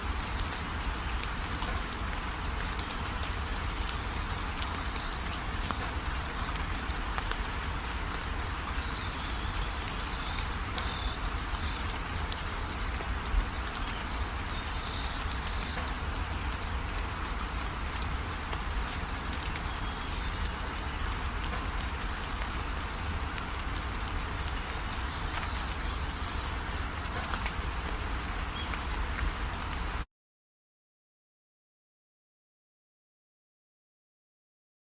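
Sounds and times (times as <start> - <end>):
steady rain falling: 0.0 - 30.1
birds chirping: 0.2 - 30.0.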